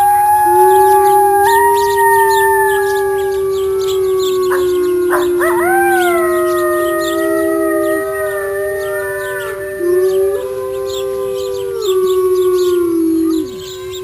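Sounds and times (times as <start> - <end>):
wolves howling in chorus: 0.0 - 14.0.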